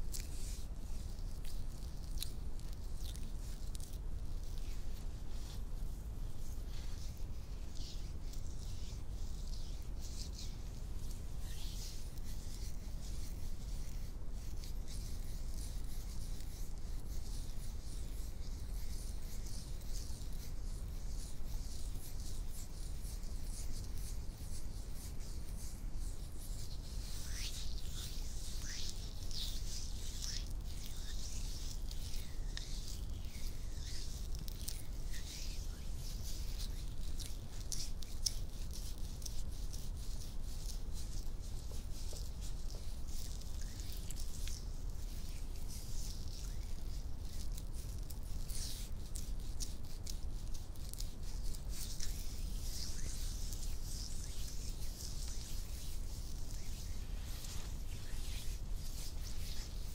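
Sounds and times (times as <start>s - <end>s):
palms rubbing: 0.1s - 59.9s.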